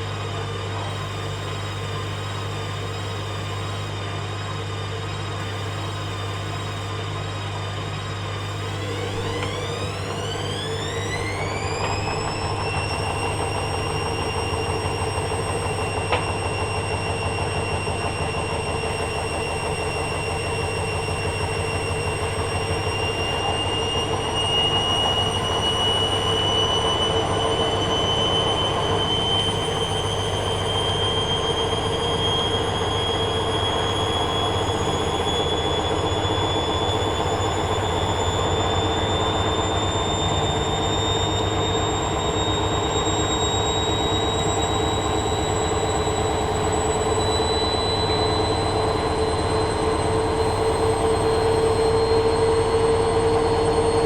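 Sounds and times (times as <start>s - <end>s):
washing machine motor whine: 0.0s - 54.0s
low hum: 8.4s - 54.0s.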